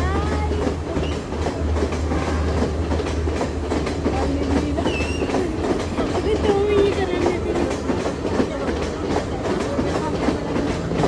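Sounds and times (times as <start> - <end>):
low train rumble: 0.0 - 11.0
train wheels clattering over rail joints: 0.0 - 11.0.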